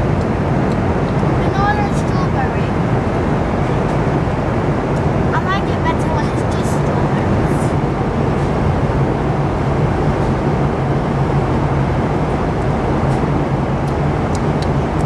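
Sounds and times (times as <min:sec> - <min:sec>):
airliner cabin roar: 0:00.0 - 0:15.0
constant low hum: 0:00.0 - 0:15.0.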